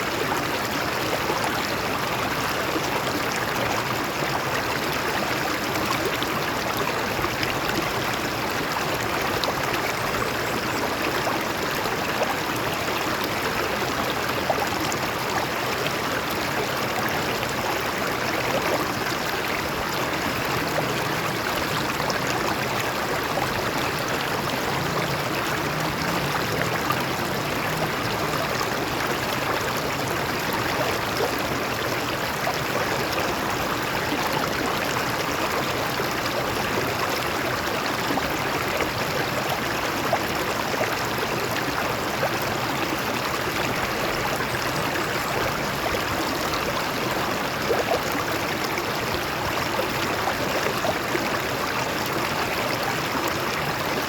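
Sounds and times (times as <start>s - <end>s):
stream water over rocks: 0.0s - 54.0s.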